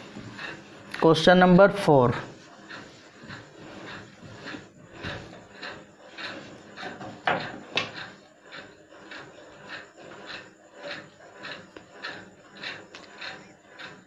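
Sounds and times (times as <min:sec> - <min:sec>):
duster rubbing on whiteboard: 0:00.0 - 0:01.3, 0:02.2 - 0:14.0.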